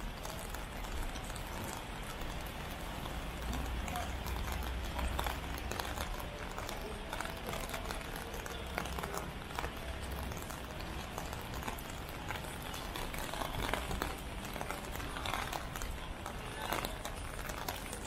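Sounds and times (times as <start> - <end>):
rain hissing: 0.0 - 17.8
low street rumble: 0.0 - 18.0.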